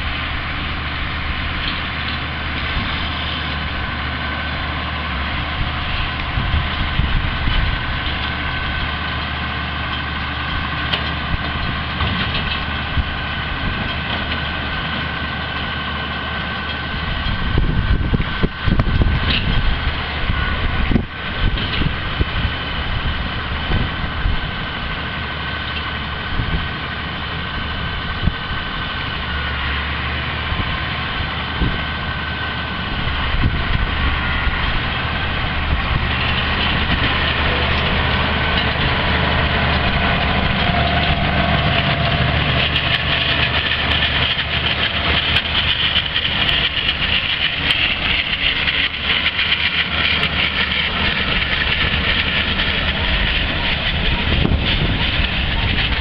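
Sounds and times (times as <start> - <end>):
baler machinery rattling: 0.0 - 56.0
tractor diesel engine under load: 0.0 - 56.0.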